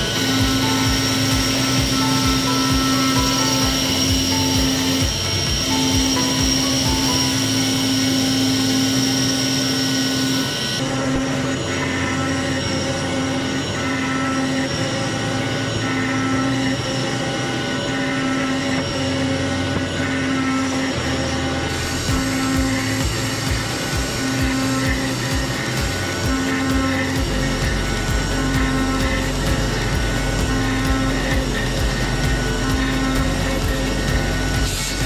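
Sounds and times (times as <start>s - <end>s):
intermittent tone: 0.0s - 35.0s
router spindle whine milling wood: 0.0s - 35.0s.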